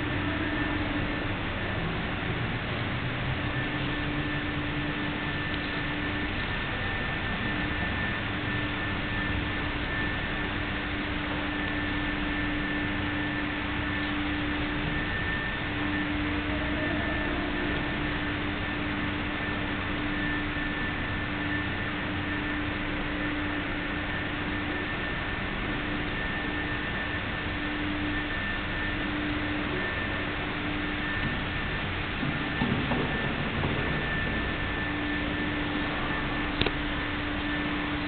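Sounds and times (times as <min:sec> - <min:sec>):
faint constant hum: 0:00.0 - 0:38.0.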